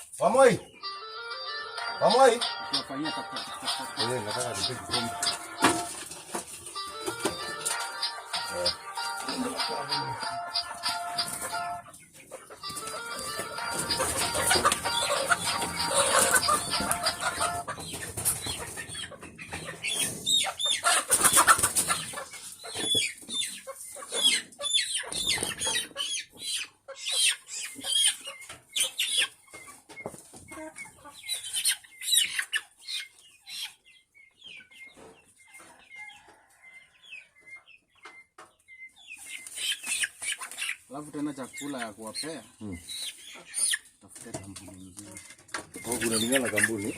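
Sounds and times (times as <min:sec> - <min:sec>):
chickens clucking and squawking: 0:00.0 - 0:46.9.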